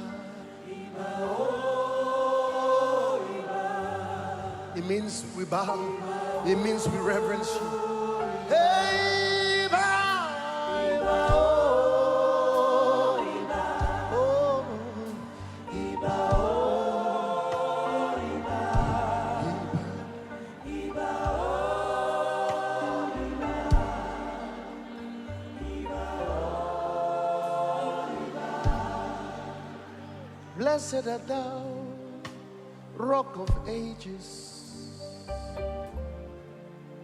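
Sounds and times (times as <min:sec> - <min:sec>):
choir singing: 0:00.0 - 0:37.0.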